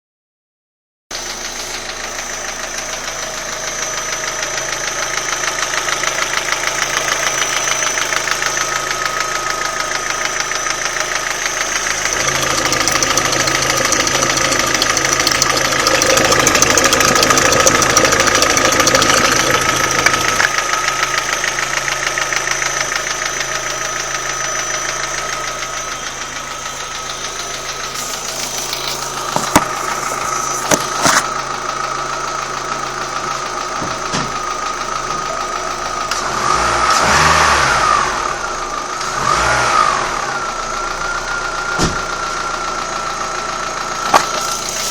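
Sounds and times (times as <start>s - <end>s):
car engine knocking: 1.1s - 44.9s.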